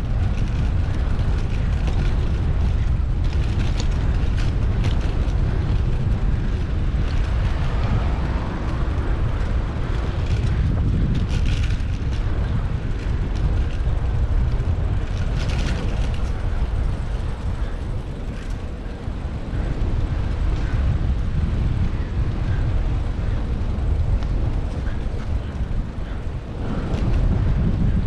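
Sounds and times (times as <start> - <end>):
road noise: 0.0 - 28.0
wind buffeting microphone: 0.0 - 28.0.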